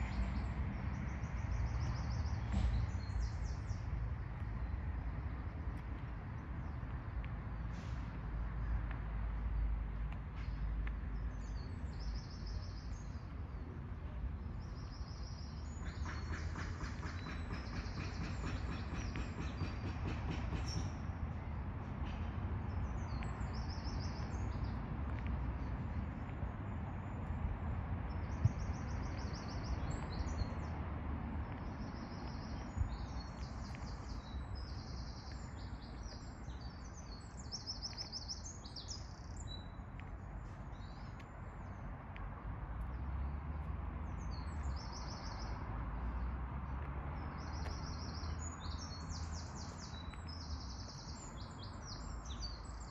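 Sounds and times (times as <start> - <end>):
small birds chirping: 0.0 - 7.7, 8.7 - 21.0, 22.7 - 43.4, 44.0 - 52.9.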